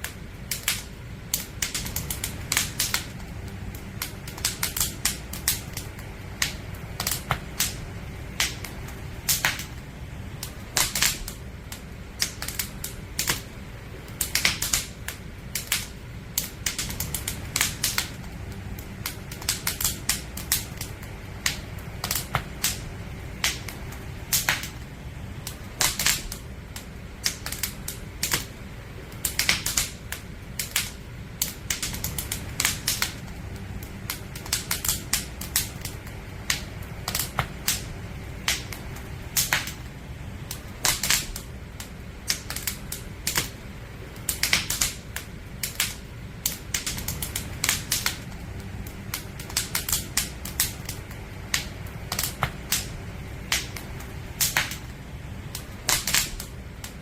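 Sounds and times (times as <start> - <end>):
firewood crackling and popping: 0.0 - 57.0
low fire background: 0.0 - 57.0.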